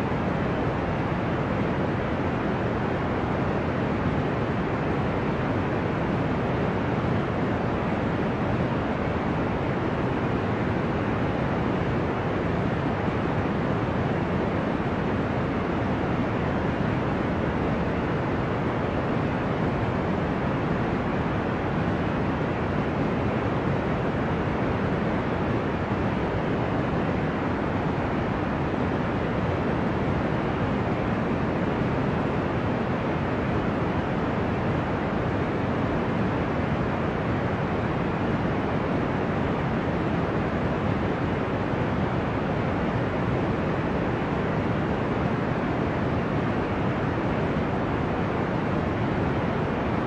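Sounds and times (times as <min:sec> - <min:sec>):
deep white noise hiss: 0:00.0 - 0:50.0.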